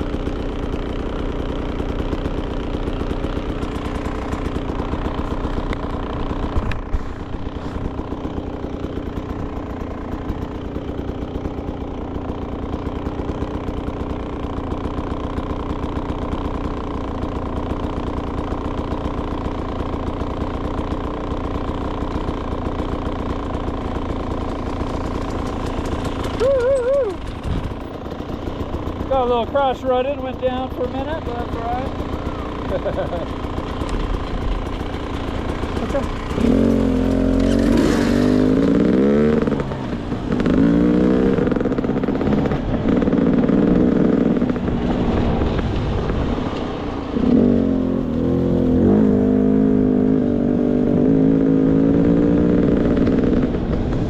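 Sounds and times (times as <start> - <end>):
dirt bike engine idling: 0.0 - 54.0.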